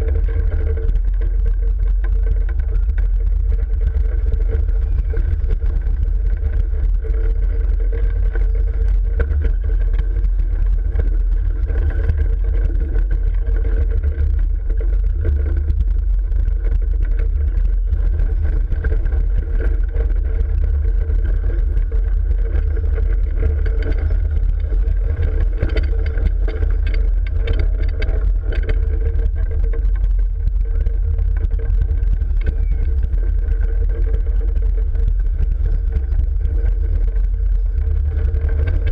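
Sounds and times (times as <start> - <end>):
roller coaster wheels rumbling: 0.0 - 38.9
roller coaster whine: 0.0 - 38.9.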